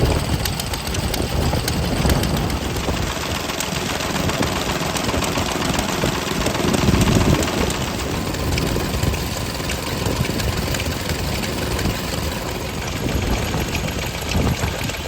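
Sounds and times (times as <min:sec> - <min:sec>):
clatter of irregular ticks: 0:00.0 - 0:15.0
stationary engines running: 0:00.0 - 0:15.0.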